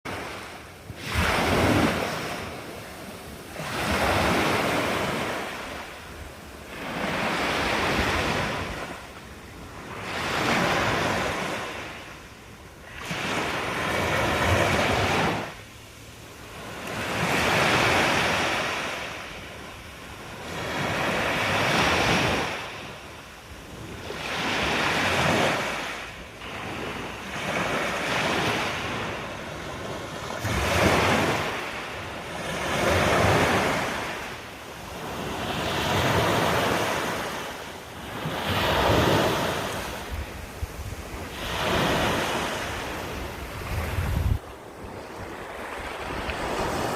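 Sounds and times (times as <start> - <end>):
waves breaking on shore: 0.1 - 46.9.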